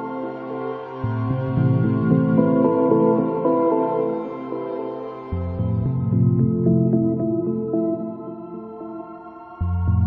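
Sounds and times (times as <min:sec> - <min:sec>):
calm ambient music: 0:00.0 - 0:10.0.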